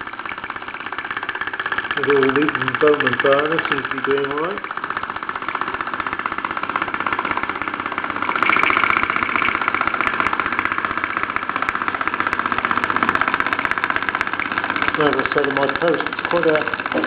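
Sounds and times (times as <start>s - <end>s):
toy steam engine exhaust beats: 0.0s - 17.0s.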